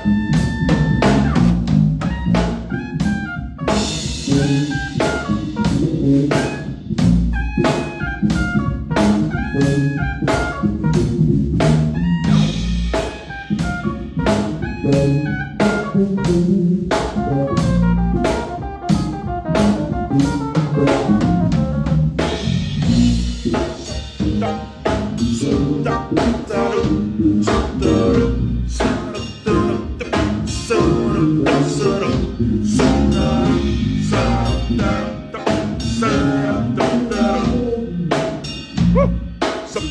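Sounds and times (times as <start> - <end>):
band playing jazzy groove: 0.0 - 39.9
drum kit beat: 0.0 - 39.9.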